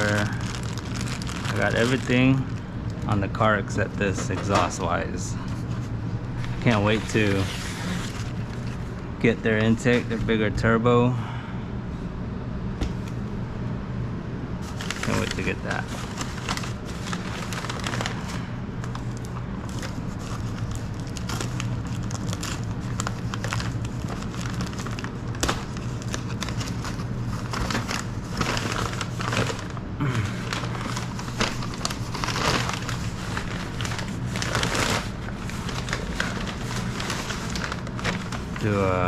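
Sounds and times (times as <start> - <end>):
packaging crinkling: 0.0 - 8.9, 14.6 - 39.0
low hum: 0.0 - 39.0.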